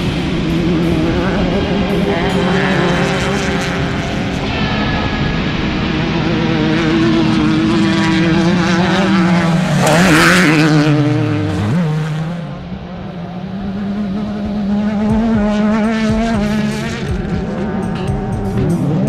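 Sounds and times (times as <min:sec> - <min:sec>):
race vehicle engines: 0:00.0 - 0:19.0
vehicle passing by with rushing noise: 0:00.0 - 0:19.0.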